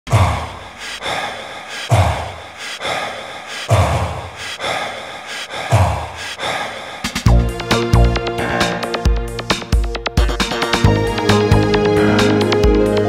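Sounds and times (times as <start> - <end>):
heavy rhythmic breathing: 0.0 - 13.0.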